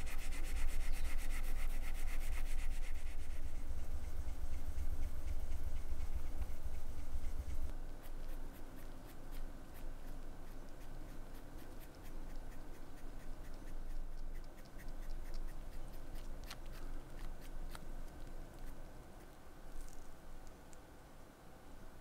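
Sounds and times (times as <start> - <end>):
cotton swab rubbing watch dial: 0.0 - 17.9
low steady hum: 0.0 - 22.0.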